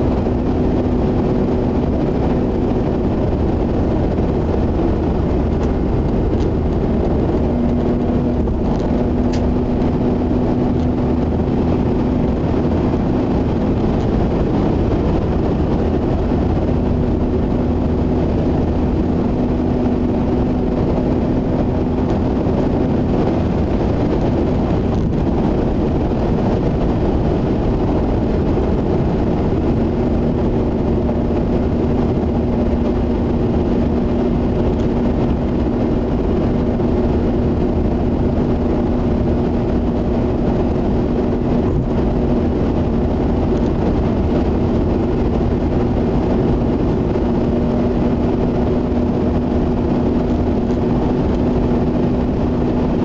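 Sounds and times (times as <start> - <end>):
low hum: 0.0 - 53.0
rotary engine drone: 0.0 - 53.0
tyre and road noise: 0.0 - 53.0.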